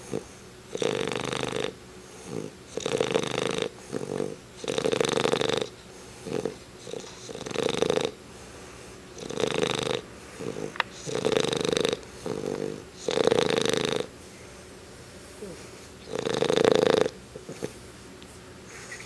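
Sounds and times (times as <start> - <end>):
dog snorting: 0.0 - 14.2, 15.3 - 19.0
dog snoring: 0.0 - 14.3, 15.3 - 18.0.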